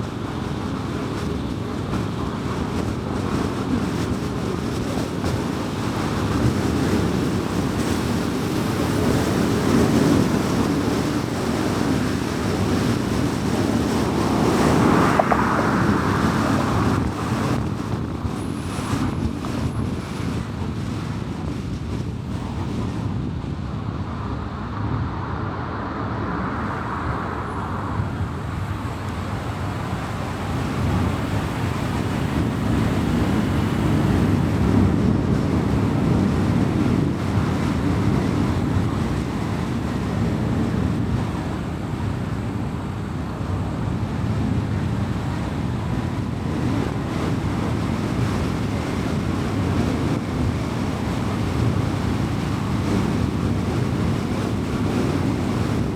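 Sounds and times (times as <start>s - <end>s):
car driving on highway: 0.0s - 55.9s.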